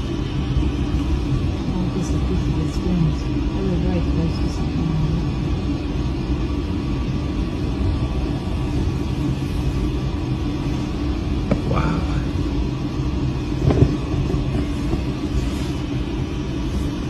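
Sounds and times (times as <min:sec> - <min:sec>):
submersible cabin rumble and hum: 0:00.0 - 0:17.0.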